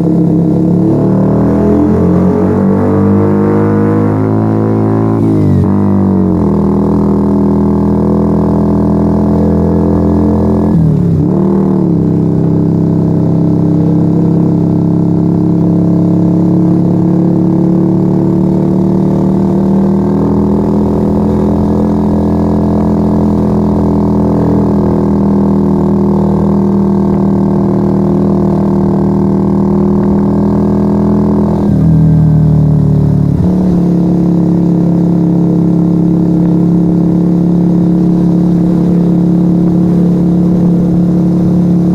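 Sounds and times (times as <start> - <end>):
loud motorcycle engine riding: 0.0 - 41.9.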